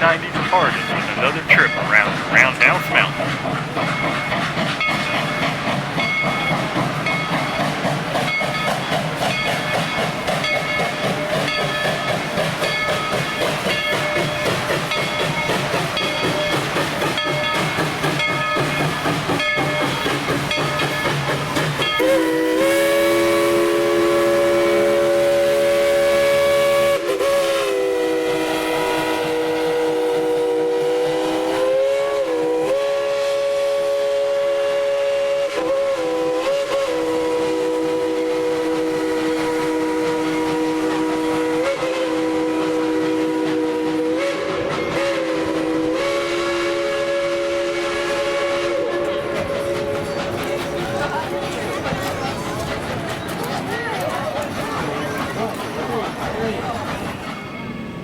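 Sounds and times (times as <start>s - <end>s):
steam locomotive chime whistle: 0.0s - 51.6s.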